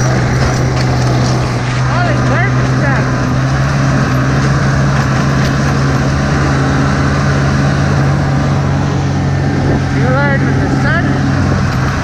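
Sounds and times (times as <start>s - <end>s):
constant rush of noise: 0.0s - 12.0s
snowmobile engine running: 0.0s - 12.0s.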